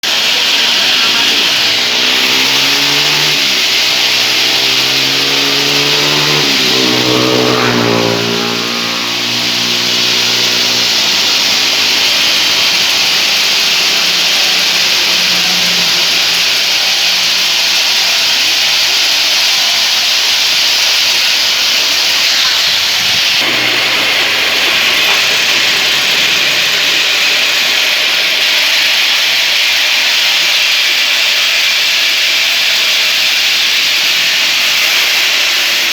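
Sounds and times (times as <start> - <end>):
saw drive humming: 0.0 - 31.5
band saw blade hissing: 0.0 - 35.9.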